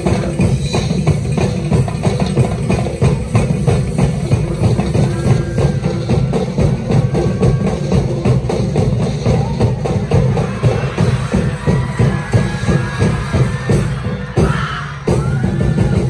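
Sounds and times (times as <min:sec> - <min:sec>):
street-dance music with drums: 0:00.0 - 0:16.0.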